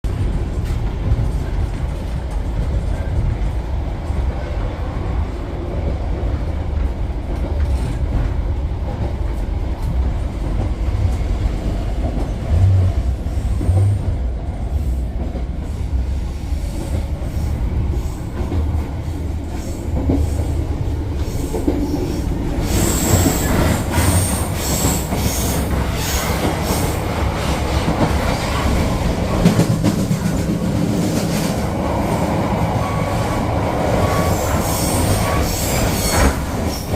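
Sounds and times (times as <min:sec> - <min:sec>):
train rumbling on rails: 0:00.0 - 0:36.9.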